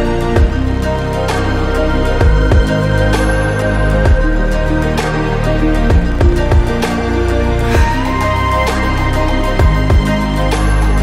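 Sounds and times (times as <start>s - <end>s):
calm new-age instrumental music: 0.0s - 11.0s.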